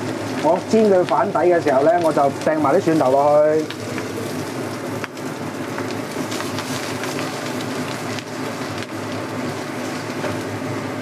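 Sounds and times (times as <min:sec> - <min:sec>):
food sizzling in a pan: 0:00.0 - 0:11.0
oil crackling and popping: 0:00.0 - 0:11.0.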